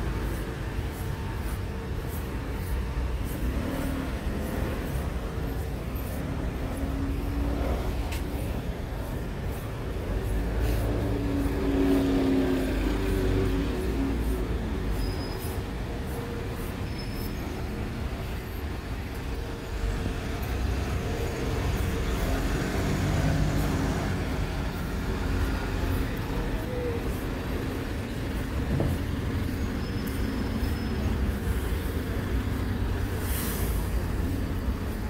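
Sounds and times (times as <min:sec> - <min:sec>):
heavy vehicle passing: 0:00.0 - 0:35.0
street traffic rumble: 0:00.0 - 0:35.0.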